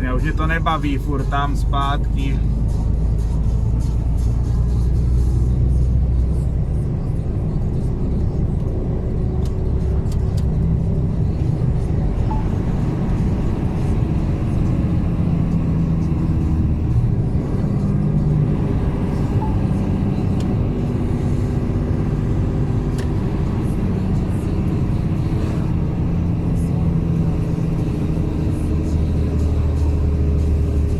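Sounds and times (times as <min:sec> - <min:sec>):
truck engine running: 0:00.0 - 0:30.9.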